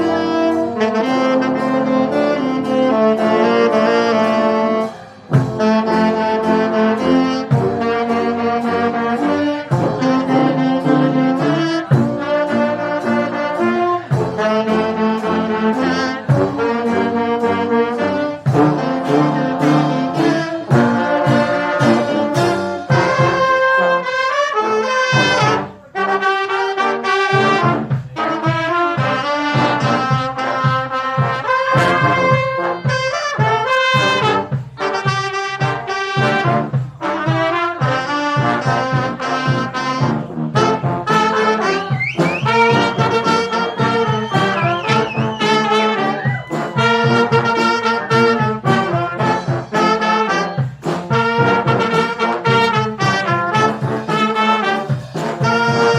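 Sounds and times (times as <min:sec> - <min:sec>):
brass band playing: 0:00.0 - 0:55.9.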